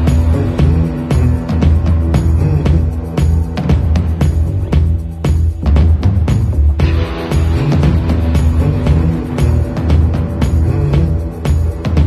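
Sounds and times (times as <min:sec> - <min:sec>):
music with heavy bass and drums: 0:00.0 - 0:12.0.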